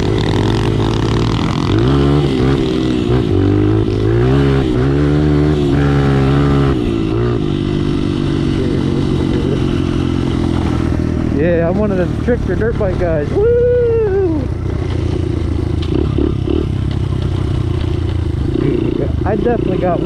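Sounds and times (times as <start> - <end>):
small motorbike engine revving: 0.0 - 13.4, 14.2 - 20.0.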